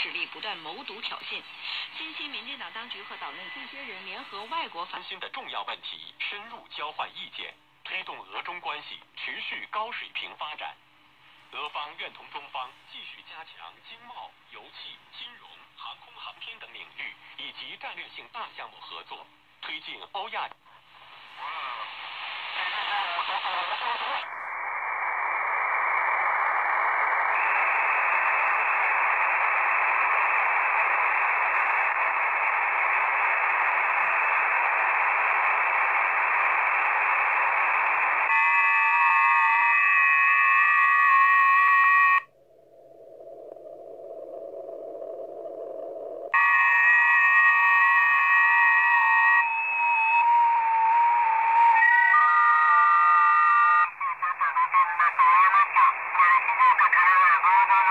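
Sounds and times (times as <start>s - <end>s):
shortwave radio hiss: 0.0s - 57.9s
steady radio data tones: 0.0s - 57.9s.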